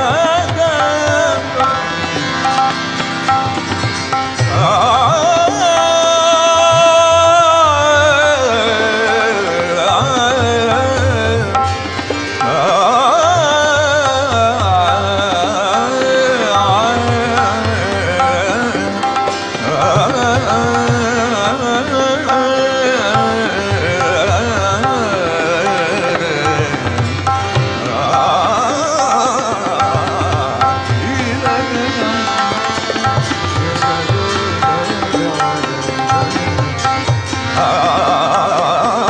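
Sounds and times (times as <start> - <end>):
man singing: 0.0 - 39.0
tabla strokes: 0.0 - 39.0
tanpura drone: 0.0 - 39.0.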